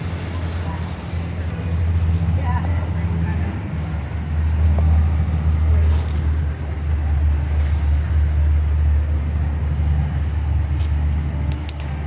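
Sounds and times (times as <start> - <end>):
motorboat engine running: 0.0 - 12.0
water churning along hull: 0.0 - 12.0.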